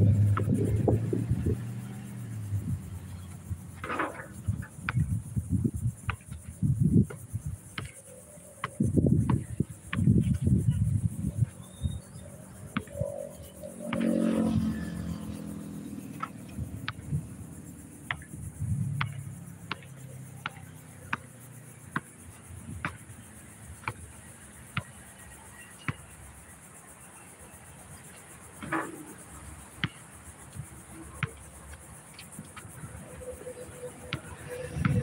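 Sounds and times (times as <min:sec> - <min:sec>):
basketball bouncing on asphalt: 0:00.2 - 0:02.1, 0:02.9 - 0:27.0, 0:28.5 - 0:32.7, 0:34.1 - 0:35.0.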